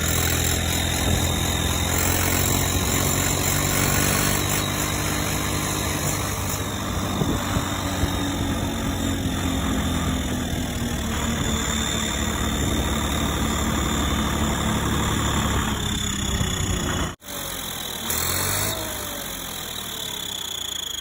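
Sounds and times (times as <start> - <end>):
turbo whistle: 0.0 - 16.6, 19.8 - 21.0
tractor diesel engine running: 0.0 - 21.0.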